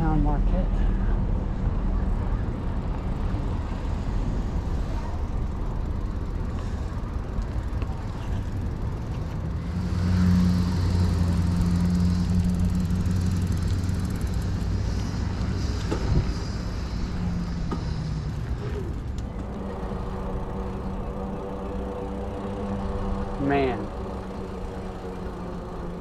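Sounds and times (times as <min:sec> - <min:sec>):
road rumble: 0:00.0 - 0:26.0
vehicle engine running: 0:00.0 - 0:26.0.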